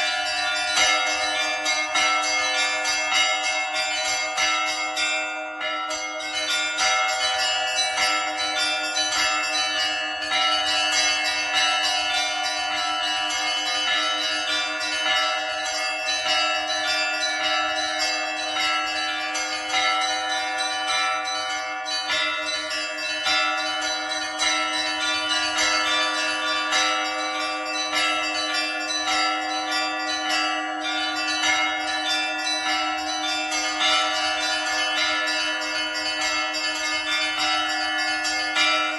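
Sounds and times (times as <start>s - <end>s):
large bell tone: 0.0s - 38.9s
small church bells striking: 0.0s - 38.9s.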